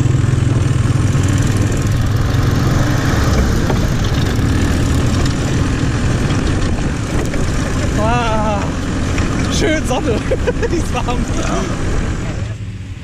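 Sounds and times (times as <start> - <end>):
buggy engine running: 0.0 - 13.0.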